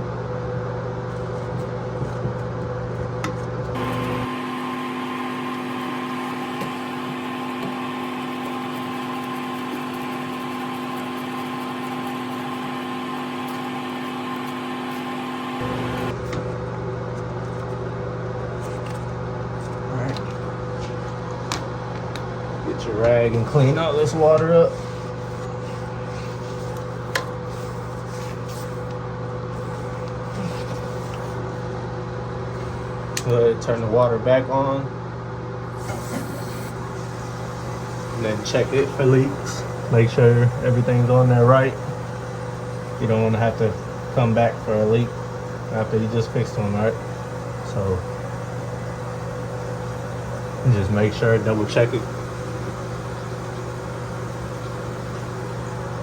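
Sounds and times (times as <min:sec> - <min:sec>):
mechanical hum with whir: 0:00.0 - 0:56.0.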